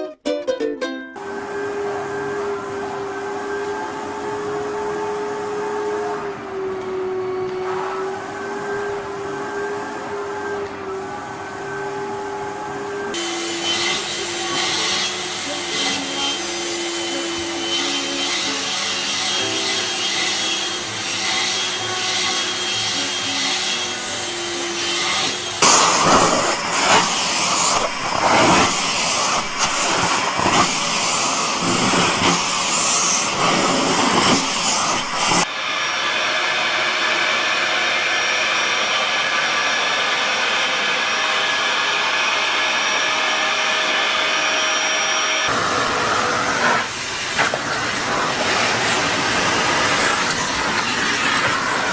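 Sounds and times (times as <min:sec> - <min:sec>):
vacuum cleaners running: 0:01.2 - 0:51.9.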